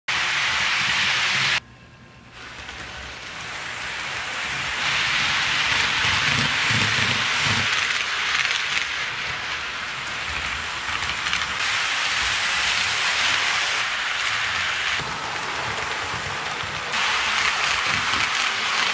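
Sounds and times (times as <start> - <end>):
model train wheels on rails: 0.1 - 1.6, 2.3 - 18.9.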